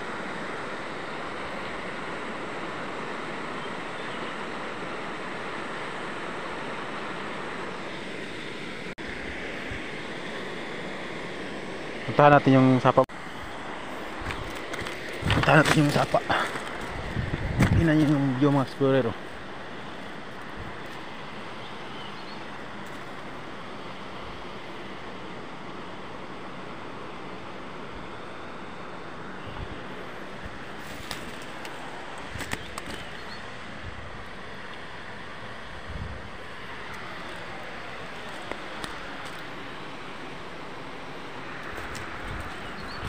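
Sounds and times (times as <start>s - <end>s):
rush of flowing water: 0.0s - 43.0s.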